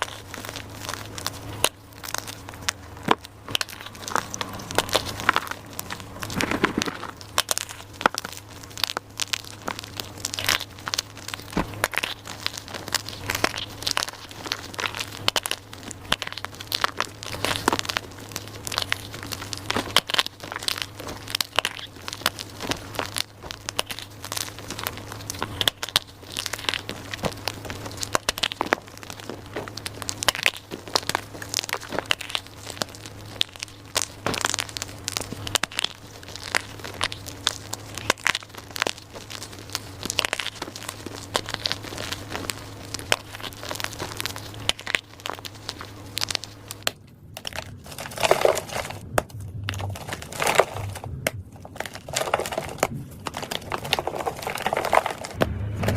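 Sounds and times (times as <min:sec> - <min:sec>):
chalk being crushed: 0:00.0 - 0:55.4
faint low hum: 0:00.0 - 0:55.9.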